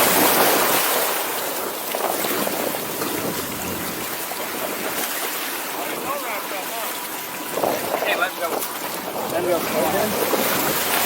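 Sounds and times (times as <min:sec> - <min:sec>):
sea water around a boat: 0:00.0 - 0:11.0
wind: 0:00.0 - 0:11.0.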